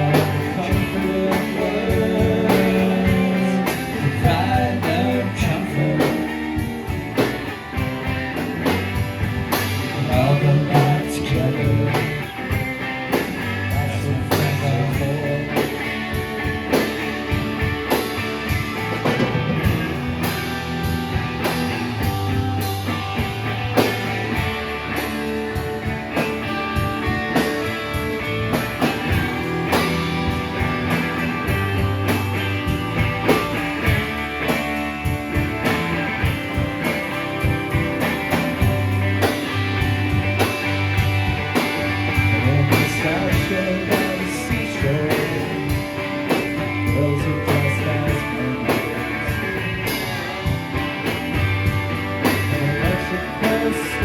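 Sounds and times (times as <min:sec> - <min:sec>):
drum kit steady beat: 0:00.0 - 0:54.0
guitar: 0:00.0 - 0:54.0.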